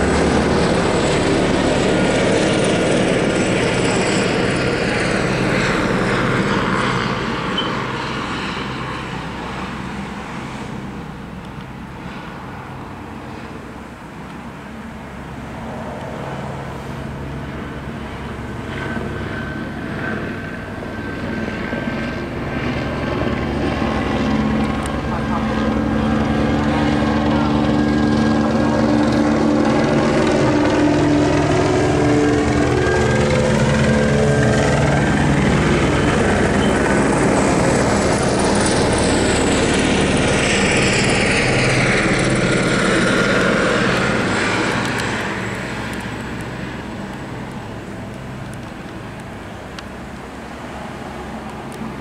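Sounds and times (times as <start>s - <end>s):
helicopter rotor and turbine: 0.0s - 52.0s.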